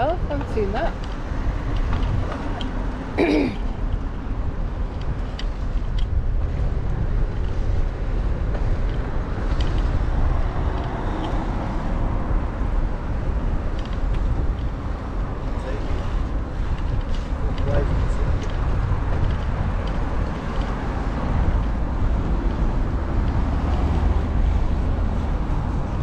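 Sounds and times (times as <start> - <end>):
wind rumble on microphone: 0.0 - 26.0
bicycle rolling over paving: 3.7 - 26.0.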